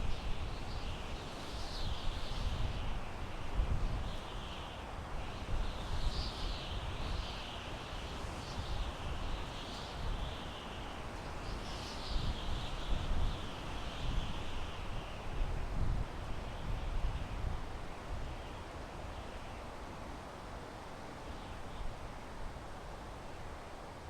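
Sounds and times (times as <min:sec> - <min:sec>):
wind gusting through pine trees: 0:00.0 - 0:24.0.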